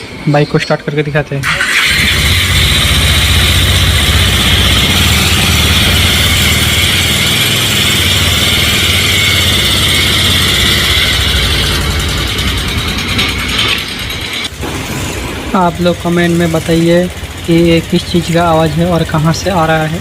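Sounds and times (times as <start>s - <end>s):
motorcycle engine idling: 1.6s - 20.0s.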